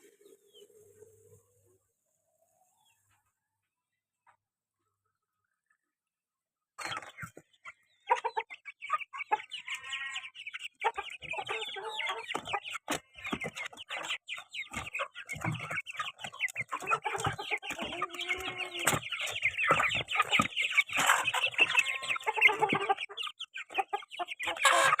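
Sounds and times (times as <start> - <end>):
chickens clucking: 0.0 - 4.9, 6.8 - 25.0.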